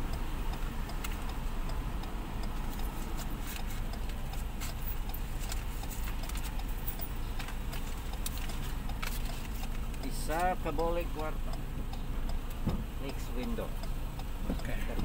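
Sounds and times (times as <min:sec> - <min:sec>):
light clicks and ticks: 0:00.0 - 0:15.0
vehicle engine idling: 0:00.0 - 0:15.0.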